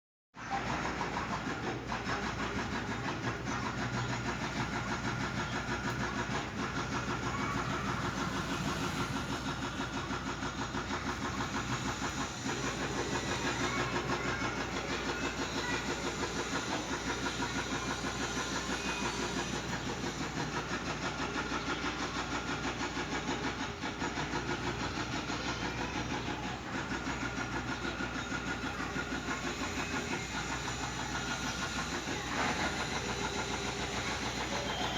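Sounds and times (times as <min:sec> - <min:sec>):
engine running with fast pulsing: 0:00.4 - 0:34.9.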